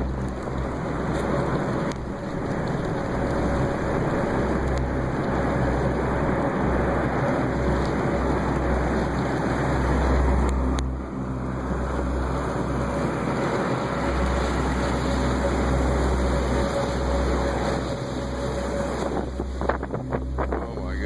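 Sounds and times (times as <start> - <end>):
faint steady hum: 0.0 - 21.0
moving vehicle rumble: 0.0 - 21.0
wind buffeting: 0.0 - 21.0.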